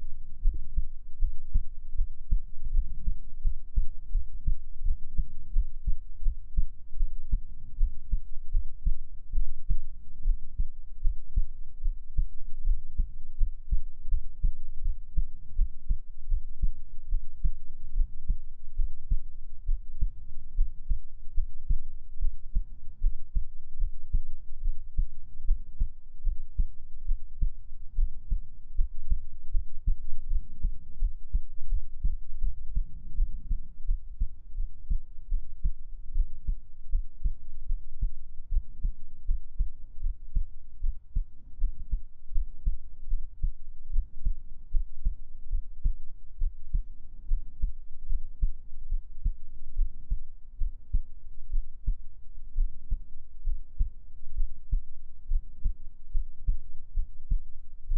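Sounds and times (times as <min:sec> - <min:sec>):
heartbeat thumps: 0:00.0 - 0:57.9.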